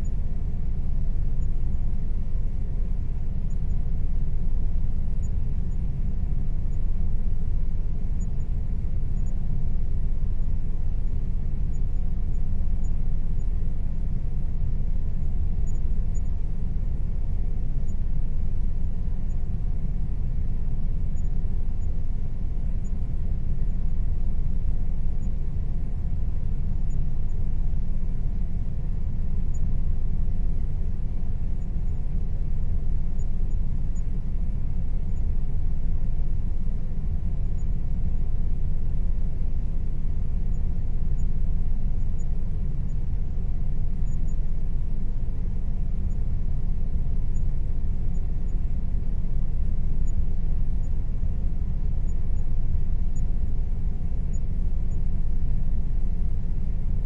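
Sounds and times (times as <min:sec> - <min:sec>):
air conditioner running: 0:00.0 - 0:57.0.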